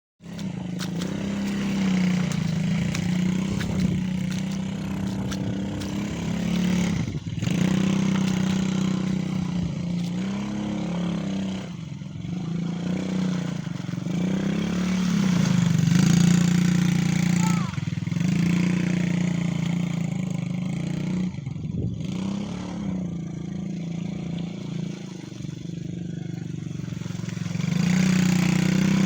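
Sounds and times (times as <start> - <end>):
quad bike engine revving: 0.2 - 29.0.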